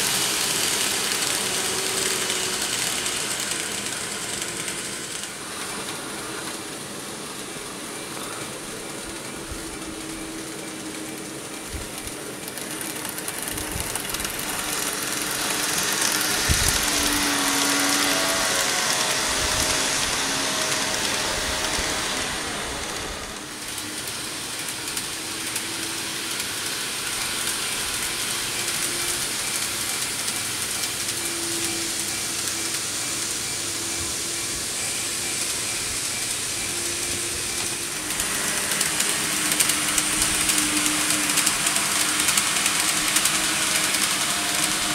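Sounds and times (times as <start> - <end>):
model train whirring rattle: 0.0 - 44.9.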